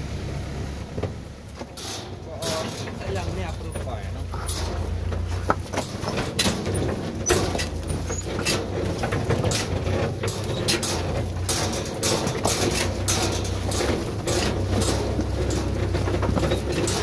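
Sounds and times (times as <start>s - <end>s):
tractor engine droning: 0.0s - 17.0s
sharp knocks and rattles: 1.0s - 17.0s.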